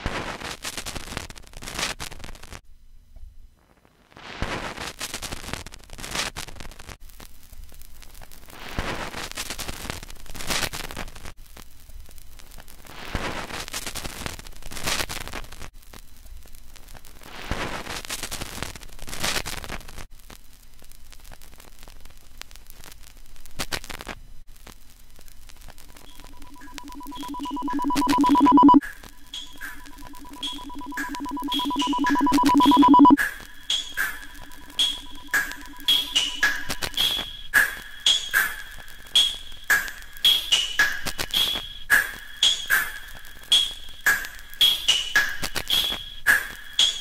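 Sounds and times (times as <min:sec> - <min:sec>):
electronic hiss and crackle: 0:00.0 - 0:02.6, 0:03.6 - 0:47.0.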